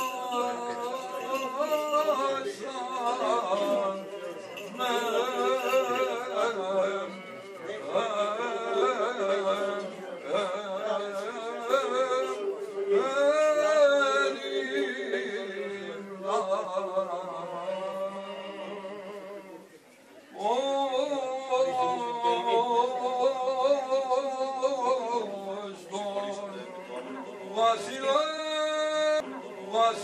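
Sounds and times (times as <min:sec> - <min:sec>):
man chanting ornamented phrases: 0:00.0 - 0:19.6, 0:20.6 - 0:30.0.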